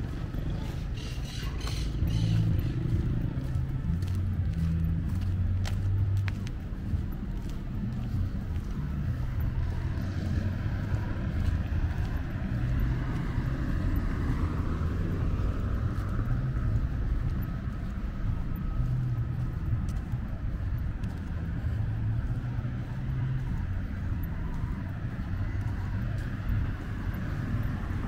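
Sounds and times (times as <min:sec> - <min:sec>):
car passing: 0:00.0 - 0:28.0
road traffic rumble: 0:00.0 - 0:28.0.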